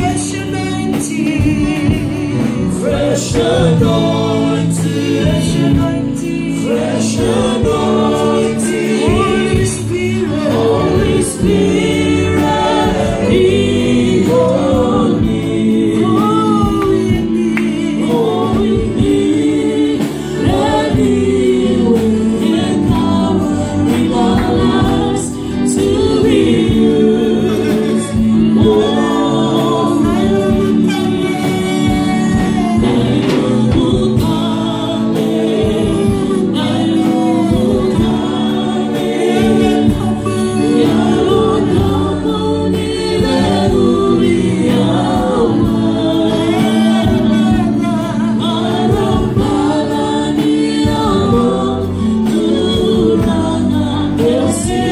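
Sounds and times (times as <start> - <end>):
group singing worship song: 0.0 - 54.9.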